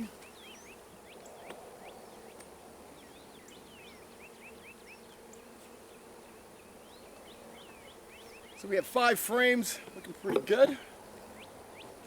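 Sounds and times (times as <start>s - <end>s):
bees buzzing: 0.0s - 12.0s
small birds chirping: 0.0s - 12.0s.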